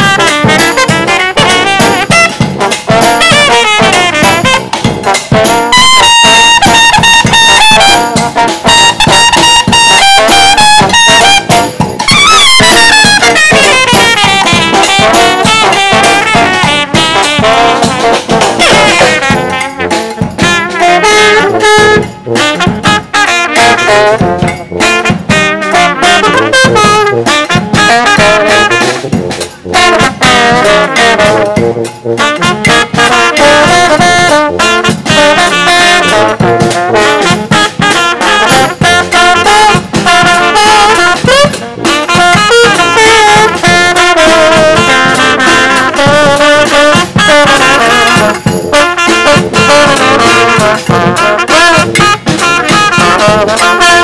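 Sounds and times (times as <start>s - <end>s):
brass band playing: 0.0s - 54.0s
trumpet and trombone runs: 0.0s - 54.0s.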